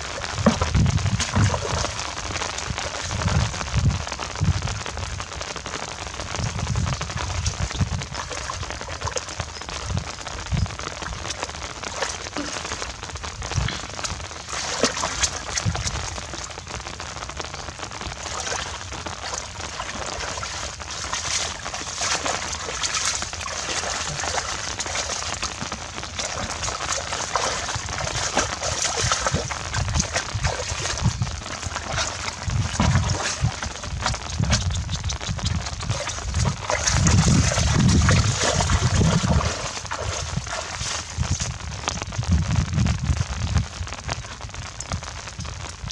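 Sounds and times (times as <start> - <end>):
water splashing: 0.0 - 3.8, 5.6 - 42.0
rain pattering on water: 0.0 - 45.9.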